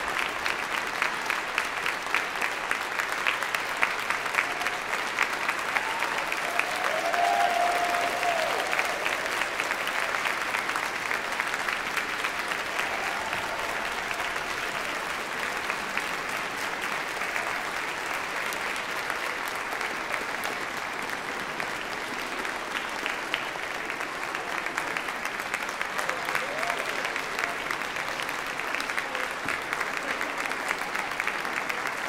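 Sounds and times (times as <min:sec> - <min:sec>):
audience applauding: 0:00.0 - 0:32.0.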